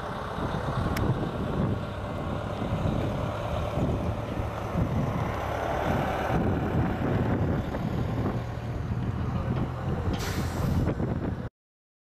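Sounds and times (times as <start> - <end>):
distant helicopter rumble: 0.0 - 10.2
wind buffeting microphone: 0.1 - 11.5.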